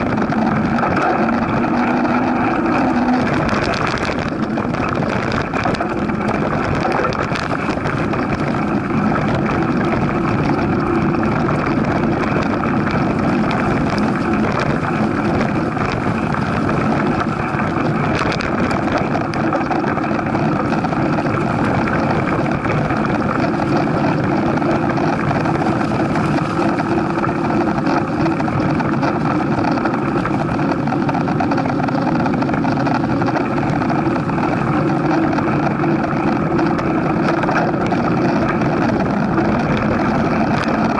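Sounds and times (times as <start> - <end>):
bike tyres rumbling on dirt trail: 0.0 - 40.9
wind buffeting microphone: 0.0 - 40.9.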